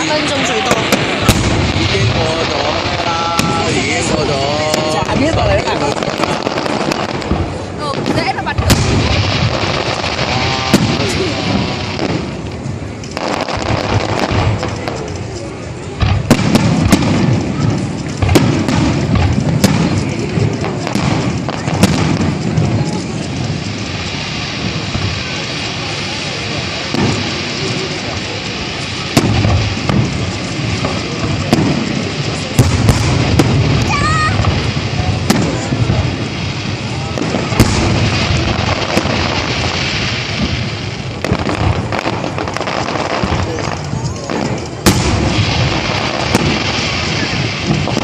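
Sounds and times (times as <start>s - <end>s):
fireworks bangs and cracks: 0.0s - 48.0s.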